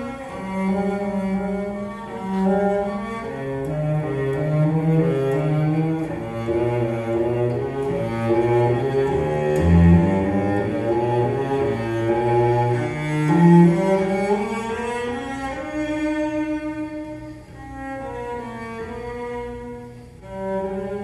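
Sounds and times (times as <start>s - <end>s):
cello playing slow bowed notes: 0.0s - 21.0s.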